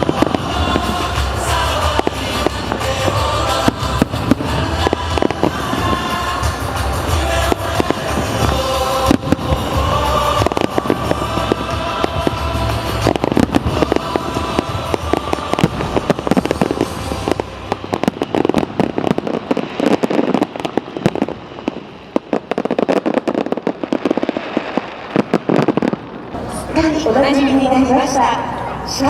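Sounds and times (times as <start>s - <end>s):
fireworks crackling and popping: 0.0s - 27.1s.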